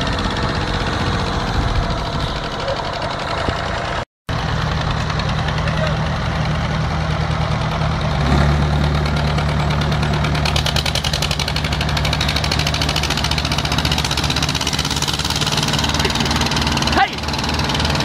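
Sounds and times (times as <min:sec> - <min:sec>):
tractor engines idling: 0:00.0 - 0:18.0.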